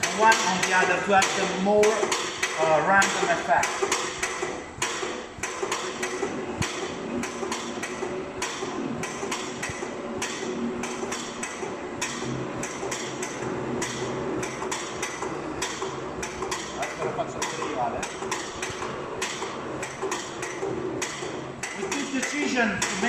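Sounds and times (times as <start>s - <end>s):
piston heads knocking on wood: 0.0s - 23.0s.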